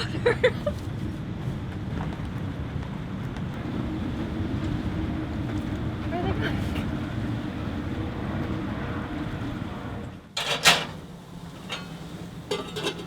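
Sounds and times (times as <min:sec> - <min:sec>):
low rumble of wind and boat: 0:00.0 - 0:13.0.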